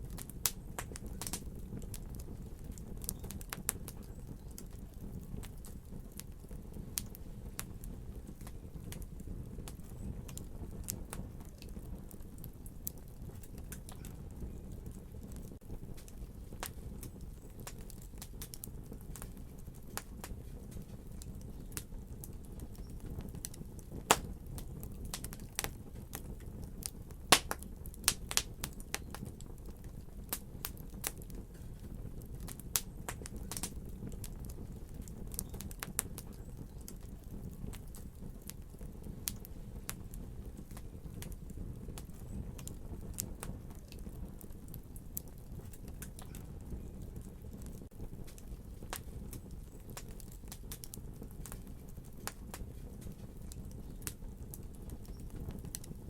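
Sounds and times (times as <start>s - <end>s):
fire crackling and popping: 0.0s - 56.0s
low fire rumble: 0.0s - 56.0s.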